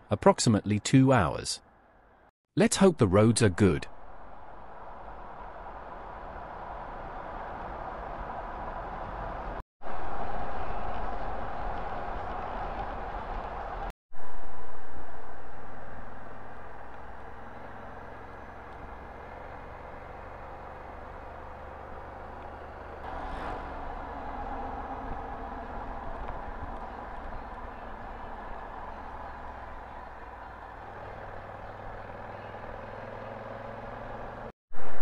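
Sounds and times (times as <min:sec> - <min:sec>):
road traffic engines: 0:03.6 - 0:34.9.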